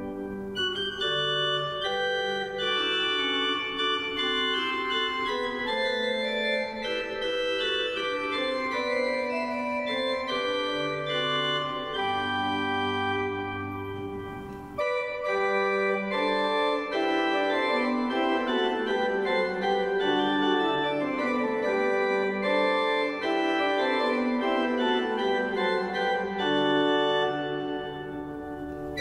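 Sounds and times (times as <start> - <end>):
pipe organ playing: 0.0 - 29.0.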